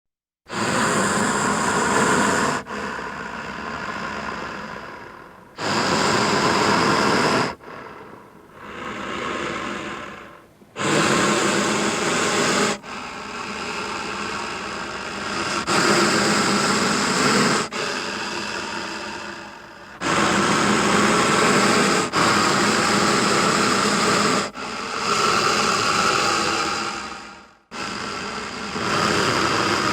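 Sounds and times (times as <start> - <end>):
monster roars and growls: 0.5 - 29.9.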